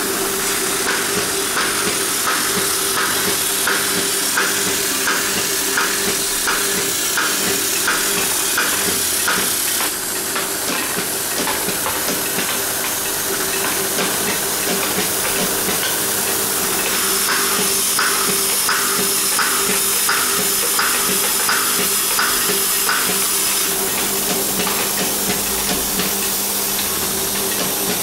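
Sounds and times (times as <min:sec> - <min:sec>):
cutting machine hiss and hum: 0:00.0 - 0:28.0.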